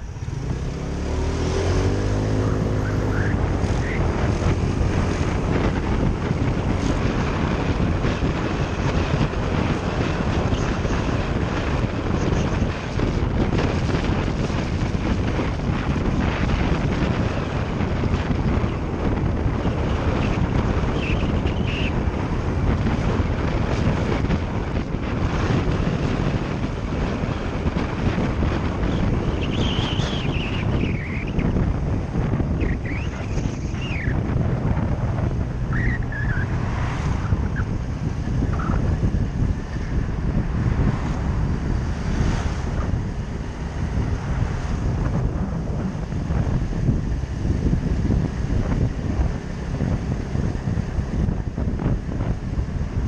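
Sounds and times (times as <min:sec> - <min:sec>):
motorbike engine running: 0:00.0 - 0:53.0
wind rush on microphone: 0:00.0 - 0:53.0.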